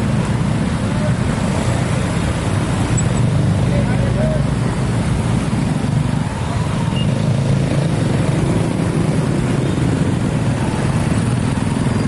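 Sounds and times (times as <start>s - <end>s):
road vehicle engines running: 0.0s - 12.0s.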